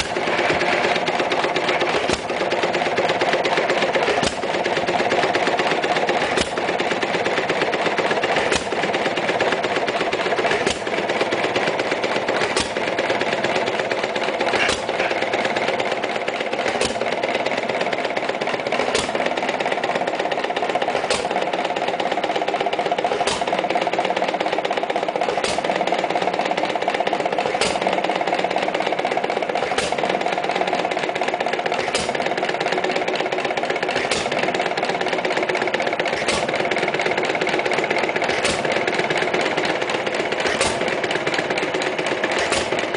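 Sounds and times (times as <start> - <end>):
hit-and-miss engine firing: 0.0 - 42.9.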